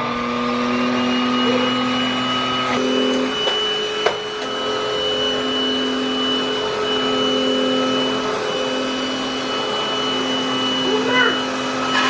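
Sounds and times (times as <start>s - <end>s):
handheld vacuum cleaner whining: 0.0s - 12.0s.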